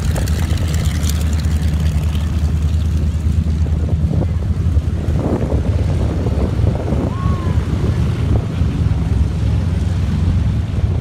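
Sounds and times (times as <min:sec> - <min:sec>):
propeller plane engine running: 0:00.0 - 0:11.0.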